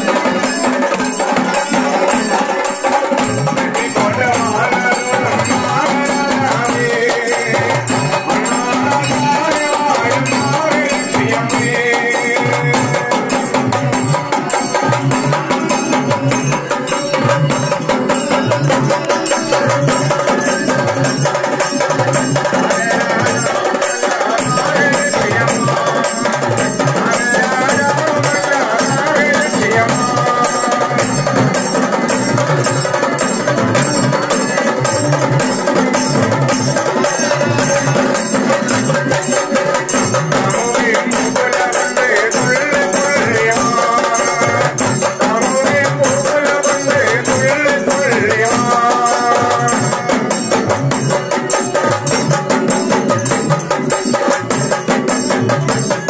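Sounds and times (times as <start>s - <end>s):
fast drumming: 0.0s - 56.0s.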